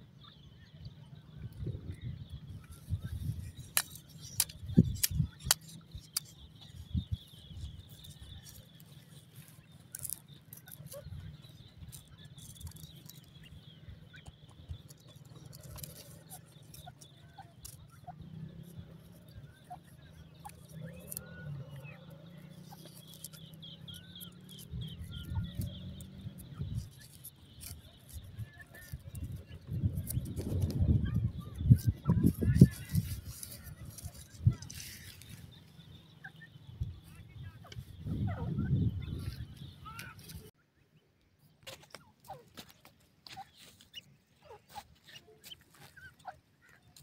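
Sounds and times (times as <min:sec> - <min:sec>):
faint bird chirps: 0:00.0 - 0:47.0
birds scratching and pecking soil: 0:01.1 - 0:40.6, 0:41.2 - 0:47.0.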